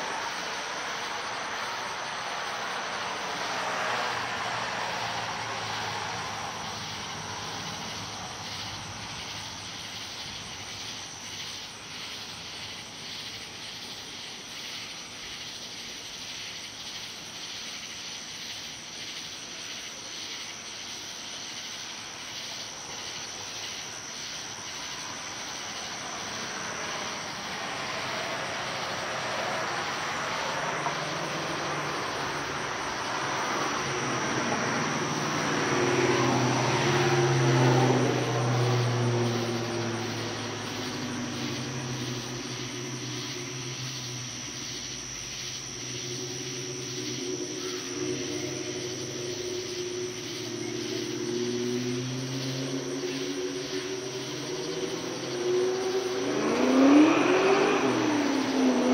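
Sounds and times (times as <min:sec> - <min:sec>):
distant passing vehicle: 0:00.0 - 0:15.5, 0:21.9 - 0:58.9
constant high whine: 0:00.0 - 0:58.9
night insects chirping: 0:00.0 - 0:58.9.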